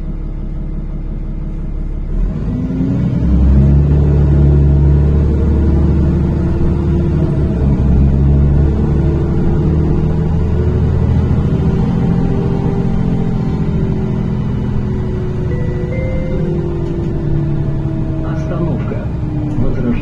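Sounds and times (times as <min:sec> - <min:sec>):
bus engine accelerating: 0:00.0 - 0:20.0.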